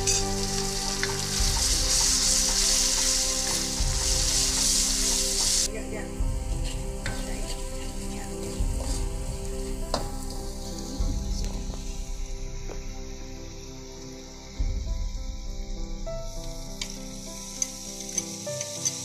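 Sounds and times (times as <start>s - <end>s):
curry paste sizzling in a wok: 0.0s - 19.0s.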